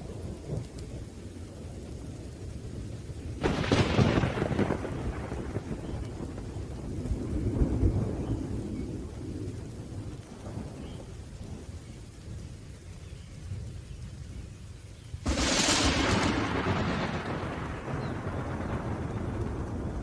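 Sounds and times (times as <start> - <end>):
faint rain hiss: 0.0 - 20.0
thunder rumbling: 0.0 - 20.0.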